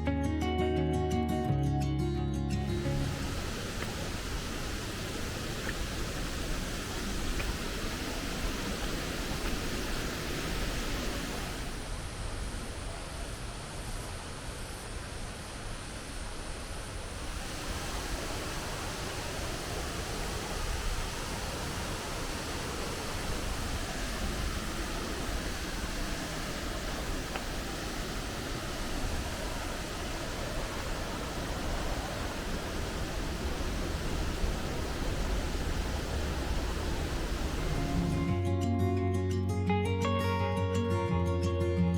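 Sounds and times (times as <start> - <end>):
waterfall roar: 2.8 - 38.3.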